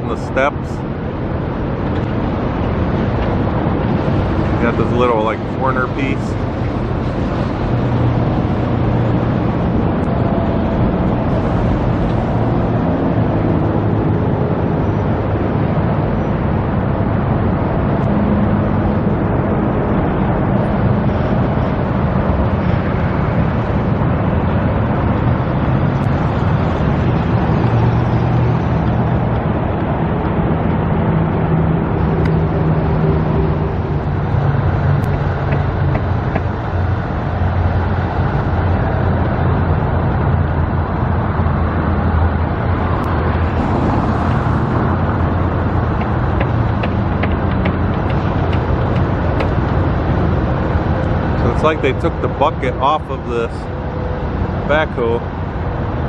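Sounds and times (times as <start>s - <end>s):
low engine hum: 0.0s - 56.0s
road traffic noise: 0.0s - 56.0s.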